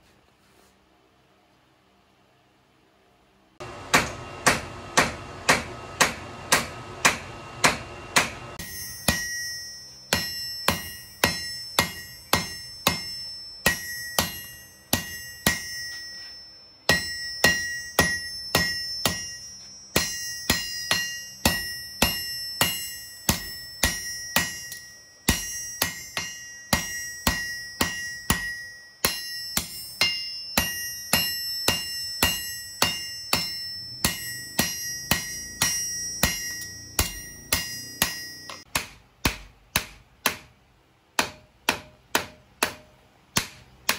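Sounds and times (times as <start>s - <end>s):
hammer striking steel on anvil: 3.6s - 43.9s.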